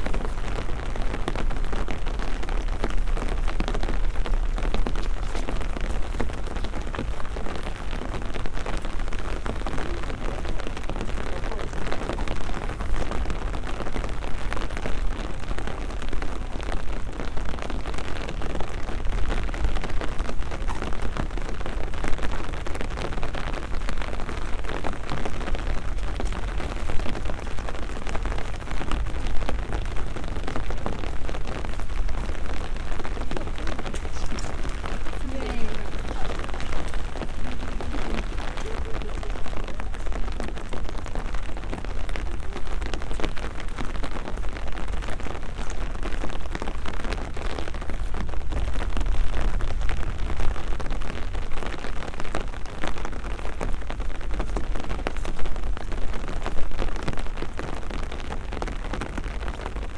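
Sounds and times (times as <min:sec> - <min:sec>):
rain falling on wet ground: 0:00.0 - 0:59.9.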